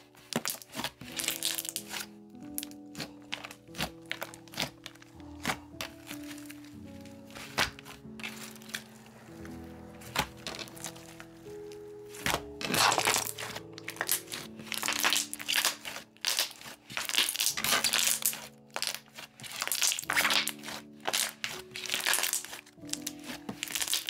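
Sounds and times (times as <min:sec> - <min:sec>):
slime squishing in hands: 0:00.0 - 0:24.0.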